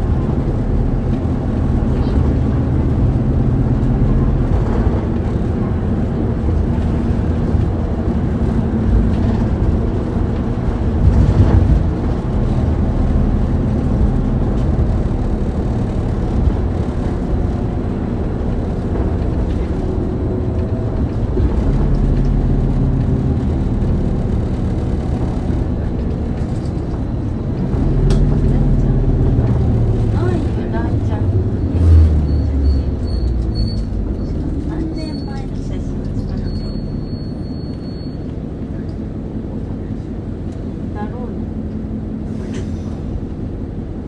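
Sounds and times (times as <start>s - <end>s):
bus diesel engine: 0.0s - 44.0s
bus jolt: 0.0s - 44.0s
road noise: 0.0s - 44.0s.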